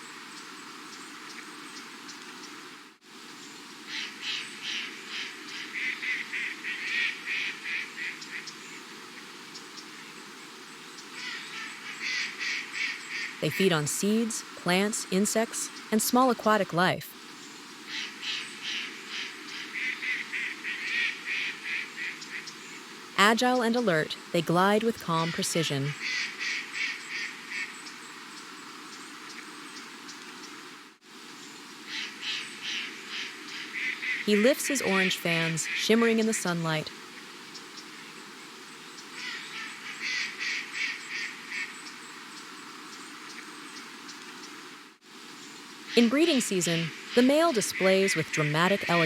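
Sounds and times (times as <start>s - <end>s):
steady background hiss: 0.0s - 49.0s.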